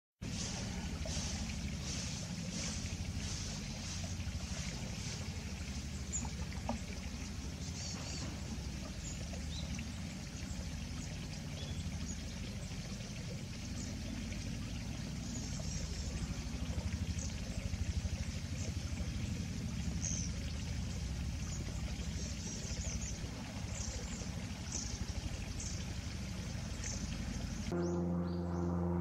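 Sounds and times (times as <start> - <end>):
steady low rumble: 0.2 - 29.0.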